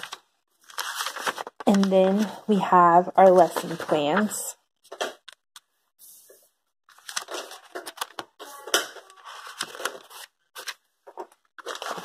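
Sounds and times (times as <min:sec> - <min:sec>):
paper crackling and rustling: 0:00.0 - 0:05.4, 0:06.9 - 0:12.0.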